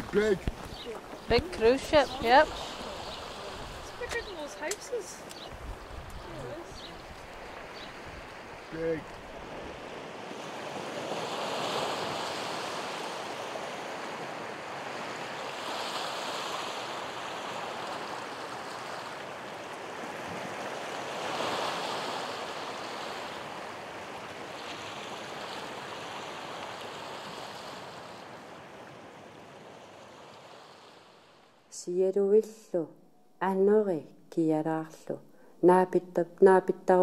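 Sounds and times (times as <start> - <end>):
sea waves washing onto shore: 0.0 - 31.5.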